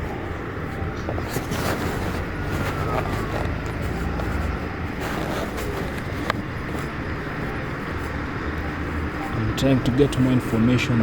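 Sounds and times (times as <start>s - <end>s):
truck engines rumbling: 0.0s - 11.0s.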